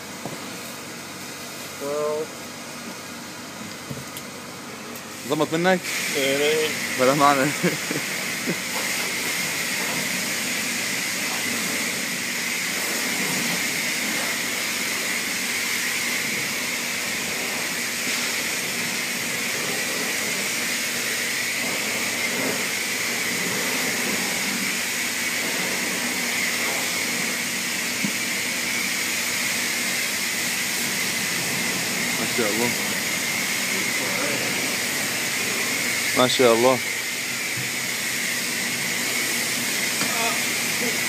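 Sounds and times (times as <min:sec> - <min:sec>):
steady hiss: 0:04.8 - 0:41.0.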